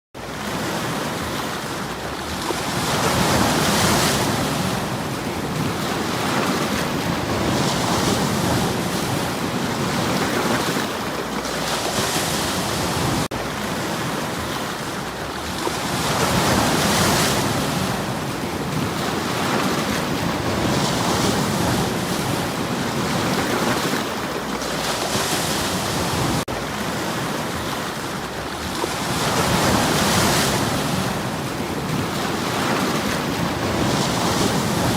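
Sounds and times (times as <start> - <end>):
sea waves washing over stones: 0.2 - 34.9.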